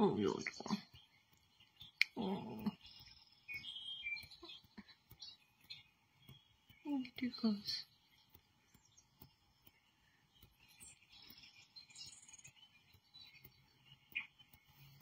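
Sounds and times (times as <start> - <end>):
bird chirps from tv speaker: 0.0 - 15.0.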